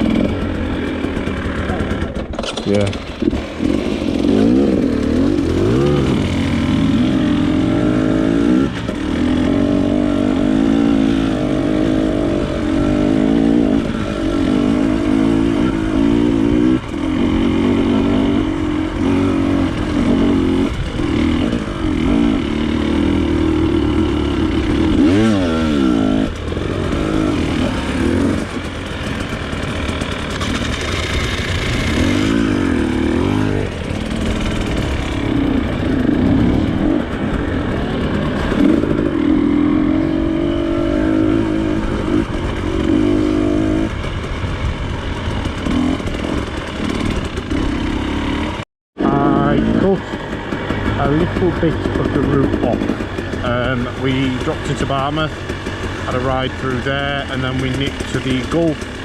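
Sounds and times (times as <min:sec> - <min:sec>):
off-road motorcycle engine revving: 0:00.0 - 0:59.0.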